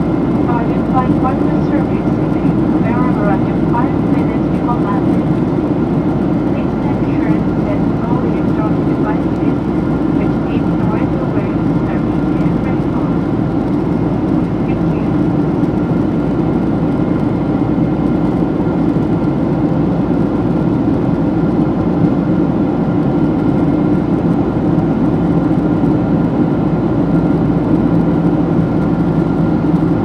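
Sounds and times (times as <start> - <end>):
aircraft cabin engine drone: 0.0 - 30.0
faint whine: 0.0 - 30.0.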